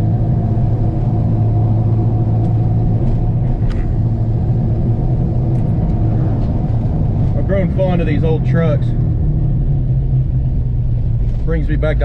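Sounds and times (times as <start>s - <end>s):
engine exhaust droning inside cab: 0.0s - 12.0s.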